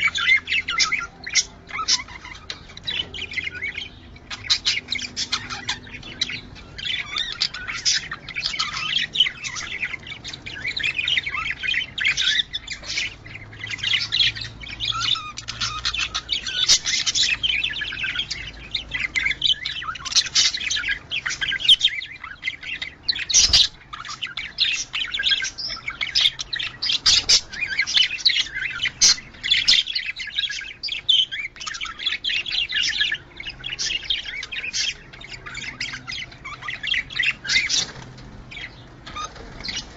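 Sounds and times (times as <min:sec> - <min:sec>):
budgerigars warbling and chirping: 0:00.0 - 0:39.9.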